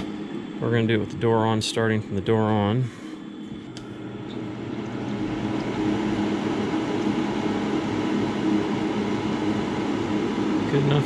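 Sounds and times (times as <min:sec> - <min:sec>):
furnace inducer motor humming: 0:00.0 - 0:11.0.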